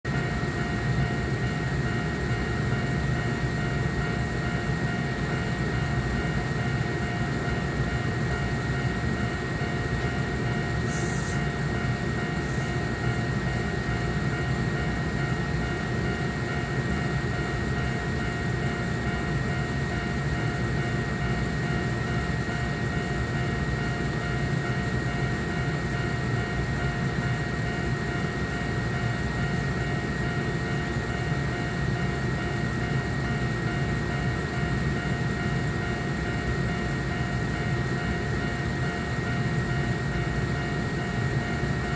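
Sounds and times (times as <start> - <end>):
electric train hum: 0.1 - 41.9
level crossing alarm ringing: 0.1 - 41.9.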